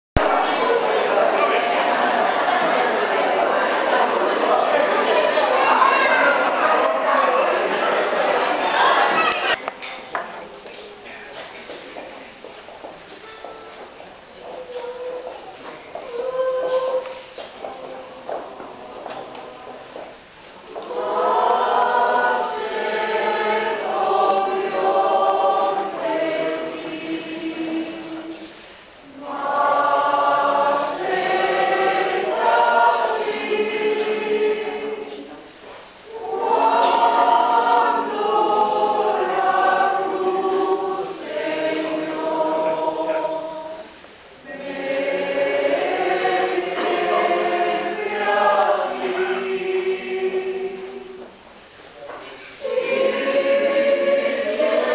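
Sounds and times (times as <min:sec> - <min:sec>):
mixed choir singing: 0:00.2 - 0:09.6, 0:14.4 - 0:54.9.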